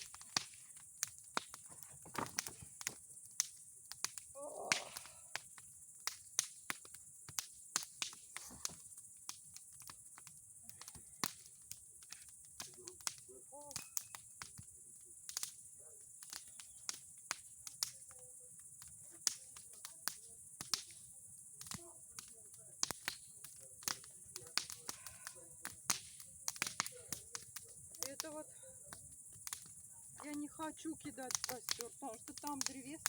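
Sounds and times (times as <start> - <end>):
bonfire crackling: 0.0 - 33.0.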